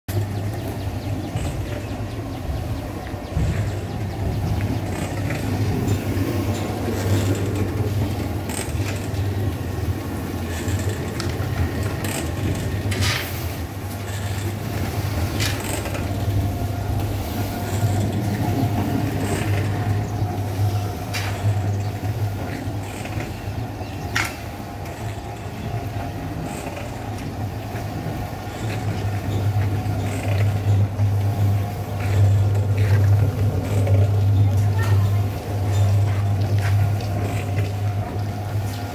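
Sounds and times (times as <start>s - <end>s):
cement mixer motor humming: 0.1s - 38.9s.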